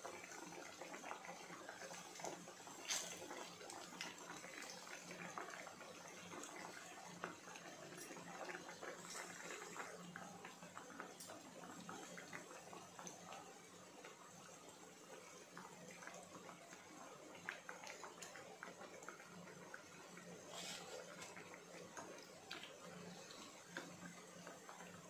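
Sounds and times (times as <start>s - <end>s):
food deep-frying in hot oil: 0.0s - 25.0s.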